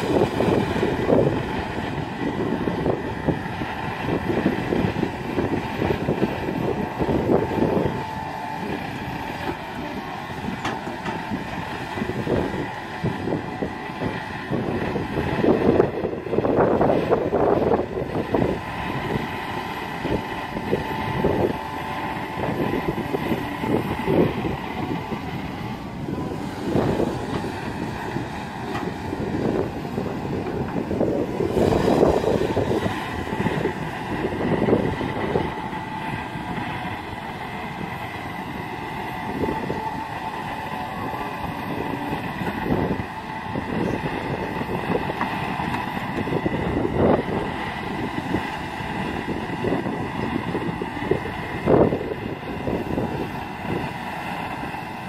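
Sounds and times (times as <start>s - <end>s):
excavator engine and hydraulics whining: 0.0s - 55.0s
wind buffeting microphone: 0.0s - 55.0s.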